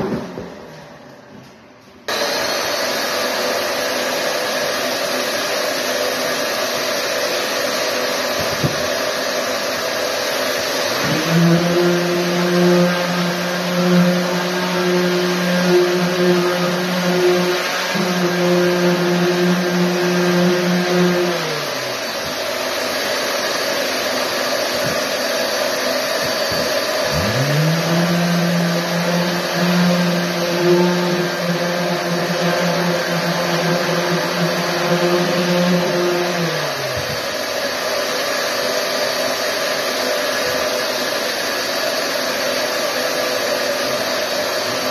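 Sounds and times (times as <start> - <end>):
sander motor hum: 2.1 - 44.9
vacuum hose rushing noise: 2.1 - 44.9.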